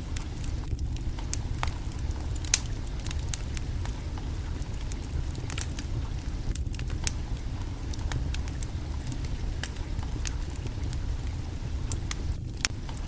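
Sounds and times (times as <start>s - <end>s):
low rumble: 0.0s - 13.0s
wood fire crackling: 0.0s - 13.0s.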